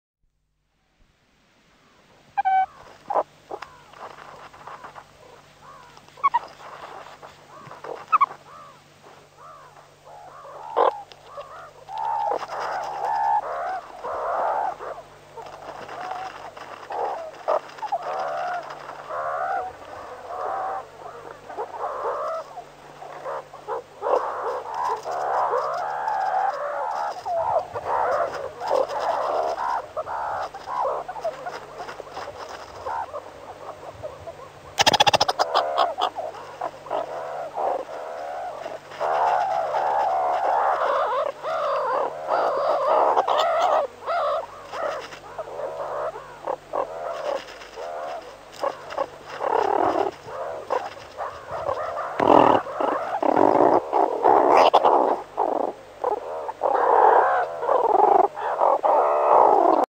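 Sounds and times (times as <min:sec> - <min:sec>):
meerkats squeaking and chirping: 0:02.4 - 0:08.7, 0:10.3 - 0:59.8.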